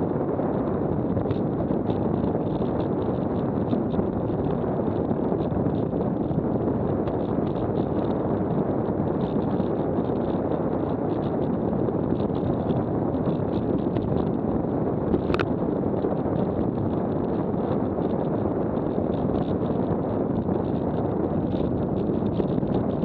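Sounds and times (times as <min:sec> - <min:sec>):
wind on microphone: 0:00.0 - 0:23.0
velomobile rolling noise: 0:00.4 - 0:23.0.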